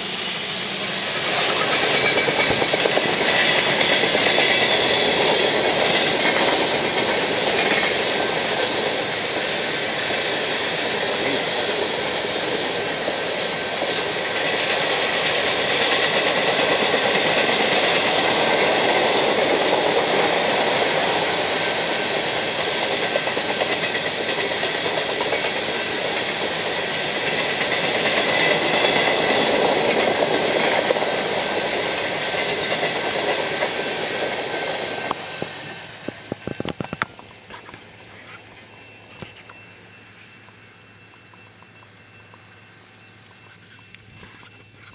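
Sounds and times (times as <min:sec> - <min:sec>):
freight train rolling past: 0:00.0 - 0:44.9.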